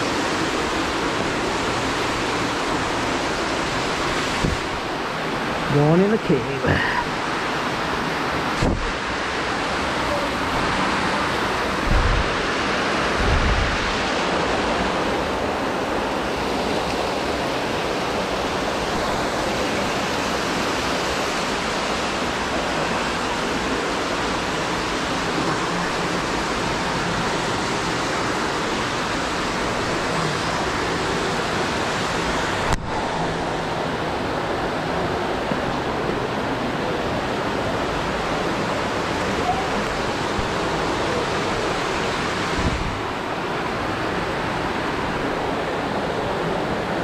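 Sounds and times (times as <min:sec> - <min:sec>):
running water: 0:00.0 - 0:47.0.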